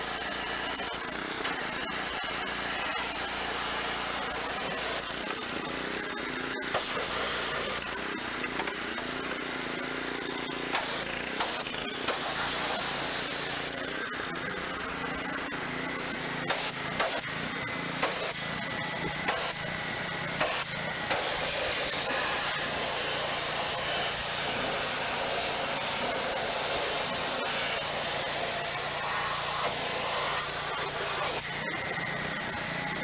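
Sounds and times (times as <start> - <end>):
pressure washer motor hum: 0.0 - 33.0
pressure washer spraying: 0.0 - 33.0.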